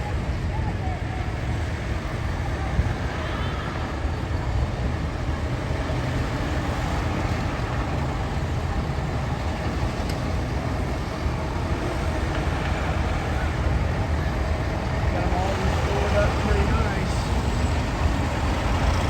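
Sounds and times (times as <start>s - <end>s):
car engines rumbling: 0.0s - 19.0s.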